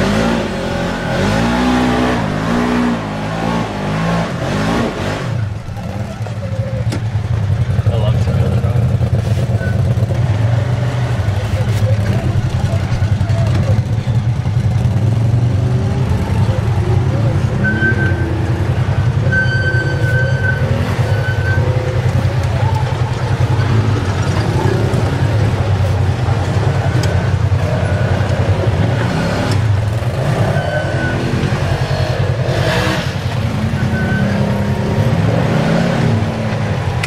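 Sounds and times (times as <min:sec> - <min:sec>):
off-road engines revving: 0:00.0 - 0:37.0.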